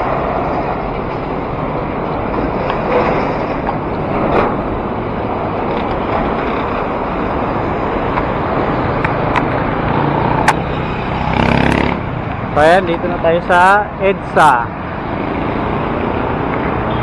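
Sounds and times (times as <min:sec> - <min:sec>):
road traffic rushing: 0:00.0 - 0:17.0
wind: 0:00.0 - 0:17.0.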